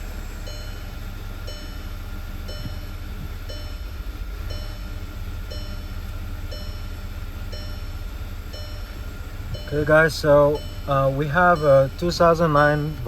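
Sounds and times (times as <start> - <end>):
car engine idling and misfiring: 0.0 - 13.0
dashboard warning chime: 0.3 - 13.0.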